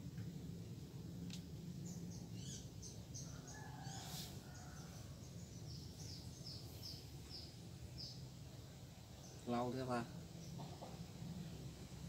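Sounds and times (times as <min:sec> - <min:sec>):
steady low rumble: 0:00.0 - 0:03.5, 0:04.8 - 0:12.0
small birds chirping: 0:01.3 - 0:12.0.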